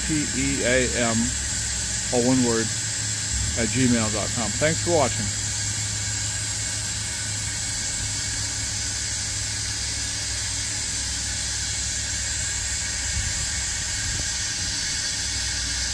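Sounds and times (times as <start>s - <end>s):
low hum: 0.0s - 14.8s
steam hissing: 0.0s - 15.9s.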